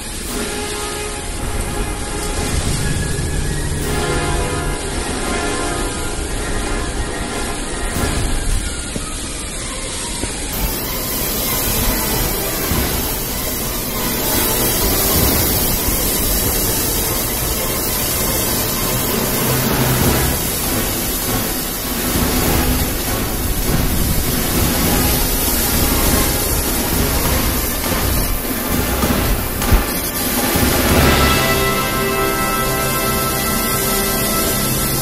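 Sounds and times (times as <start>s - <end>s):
heavy breaking surf: 1.2s - 6.4s, 10.6s - 35.0s
gale wind: 1.2s - 31.8s.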